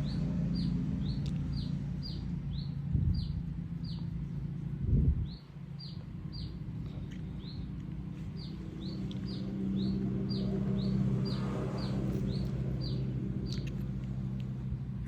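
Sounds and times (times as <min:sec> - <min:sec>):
bird chirping: 0:00.0 - 0:14.6
low steady hum: 0:00.0 - 0:15.0.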